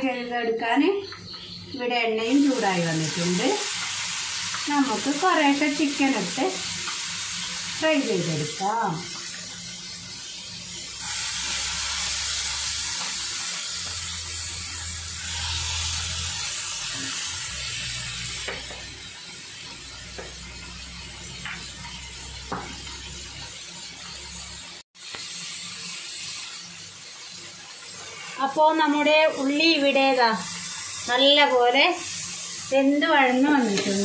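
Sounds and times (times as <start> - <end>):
chicken sizzling in hot oil: 1.3 - 34.0.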